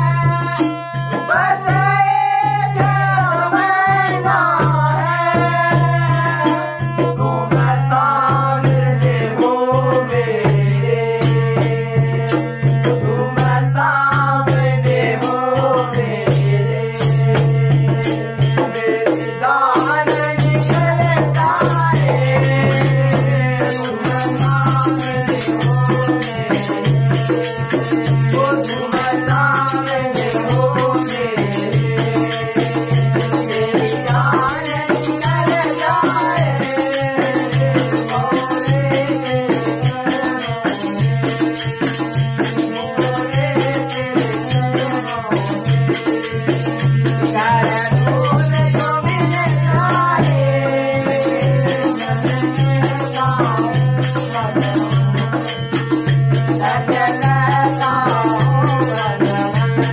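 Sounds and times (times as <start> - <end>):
hand drum beat: 0.0 - 59.9
percussion jingling: 0.0 - 59.9
voices singing: 0.0 - 59.9.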